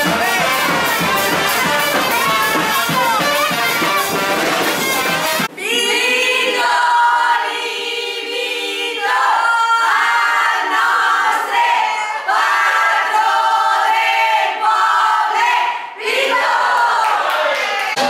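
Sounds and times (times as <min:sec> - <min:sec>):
women singing together: 0:00.0 - 0:17.3.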